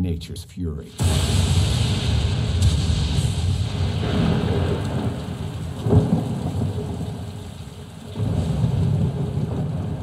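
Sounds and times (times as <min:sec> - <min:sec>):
sharp thunder crack: 0:00.9 - 0:07.4, 0:08.2 - 0:10.0
steady rain: 0:00.9 - 0:10.0
deep low thunder rumble: 0:01.0 - 0:10.0.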